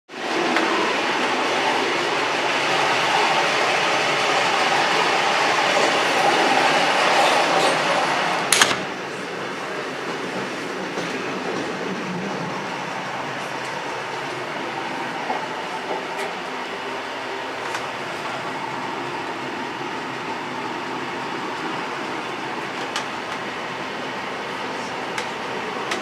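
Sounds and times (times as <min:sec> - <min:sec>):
train wheels rattling on rails: 0:00.2 - 0:26.0.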